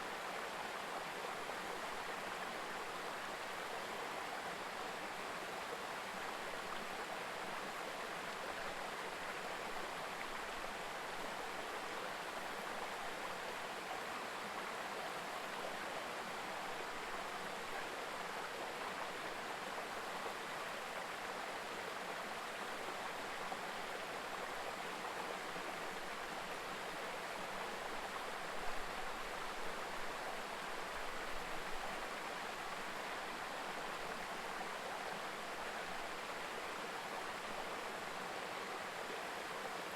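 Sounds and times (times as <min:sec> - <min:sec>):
mountain river babbling: 0:00.0 - 0:39.9.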